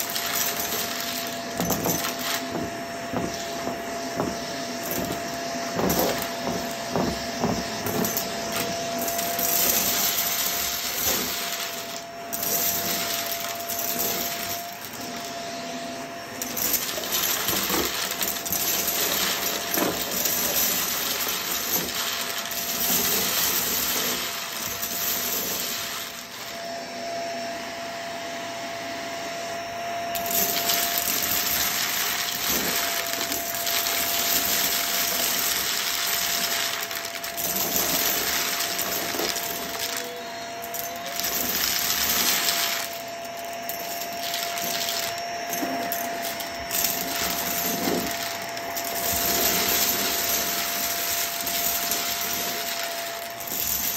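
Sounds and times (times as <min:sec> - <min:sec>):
debris crackling and rattling: 0:00.0 - 0:15.4, 0:16.4 - 0:26.5, 0:30.2 - 0:53.9
vacuum cleaner running: 0:00.0 - 0:53.9.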